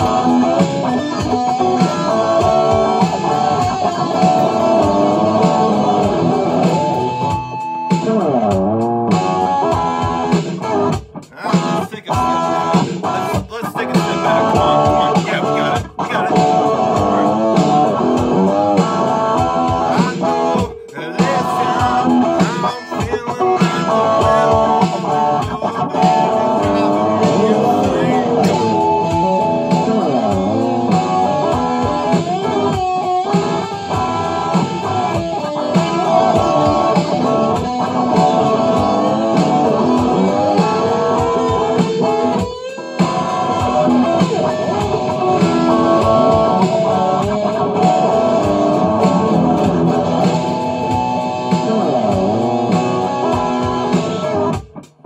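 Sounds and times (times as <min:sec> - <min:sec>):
guitar-led rock song: 0:00.0 - 0:55.0.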